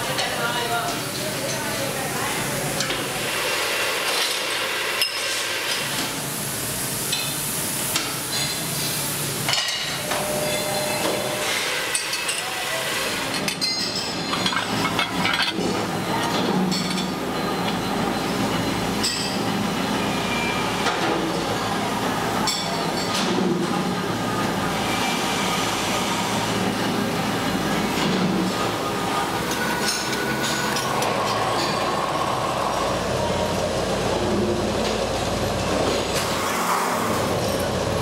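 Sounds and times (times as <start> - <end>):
steady workshop background noise: 0.0 - 38.0.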